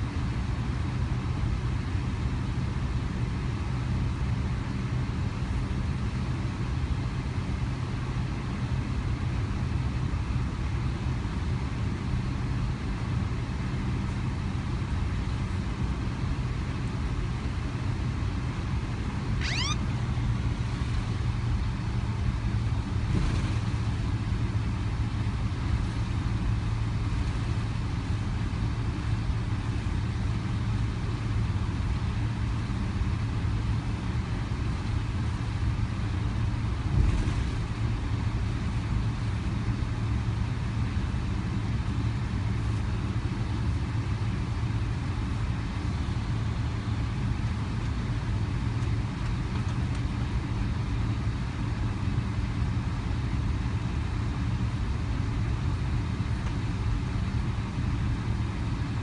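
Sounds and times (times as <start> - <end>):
airplane engines rumbling in cabin: 0.0 - 59.0.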